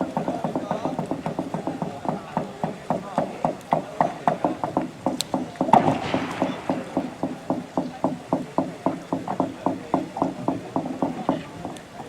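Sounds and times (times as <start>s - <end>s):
fast hollow knocking: 0.0s - 12.0s.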